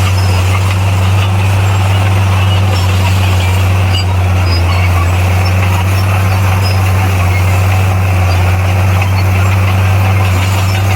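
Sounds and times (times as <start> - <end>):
bulldozer diesel engine droning: 0.0 - 10.9.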